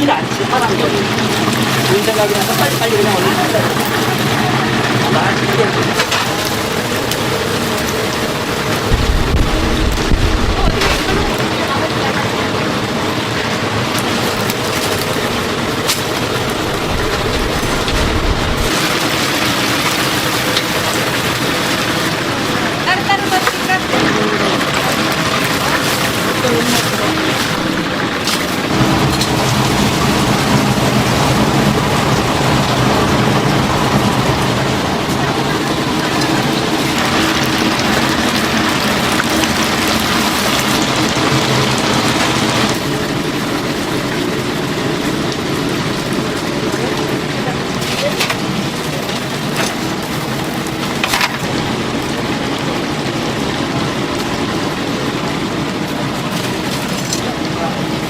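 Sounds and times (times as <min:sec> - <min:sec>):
oil sizzling loudly: 0:00.0 - 0:58.0.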